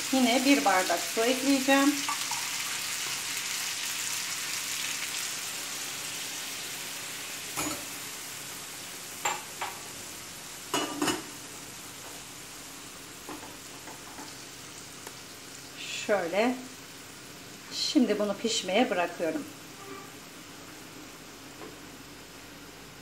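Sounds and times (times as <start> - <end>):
water sizzling in hot pan: 0.0 - 23.0.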